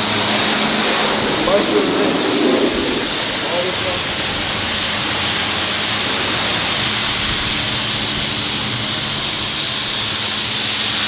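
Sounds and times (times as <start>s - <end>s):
high-pressure water spray hissing: 0.0s - 11.0s.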